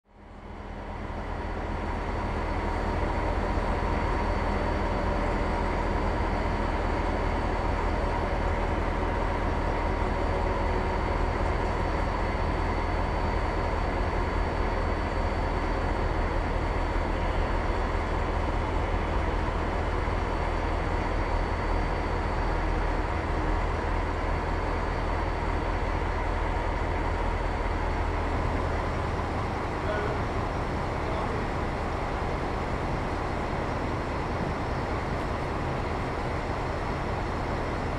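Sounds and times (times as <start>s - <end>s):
diesel locomotive engine hum: 0.1s - 37.9s
thin steady whine: 0.2s - 37.9s.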